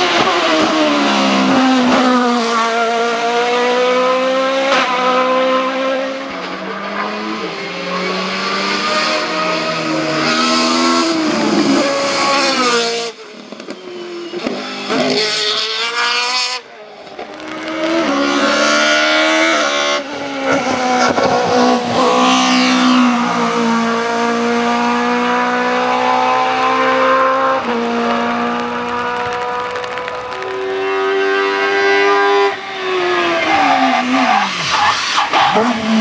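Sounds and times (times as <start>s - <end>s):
race car engines at full throttle: 0.0s - 36.0s
race car revving hard: 0.0s - 36.0s.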